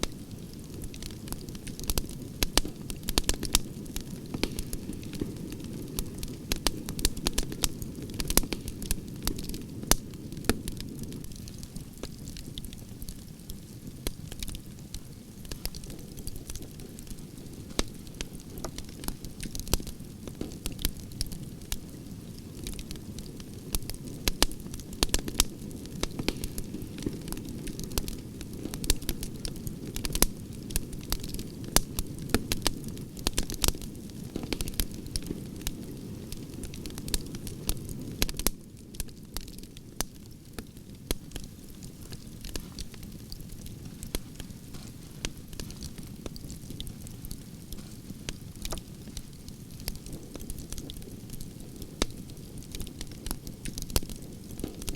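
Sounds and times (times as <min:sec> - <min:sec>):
burning logs popping and crackling: 0:00.0 - 0:54.9
low rumble of flames: 0:00.0 - 0:54.9.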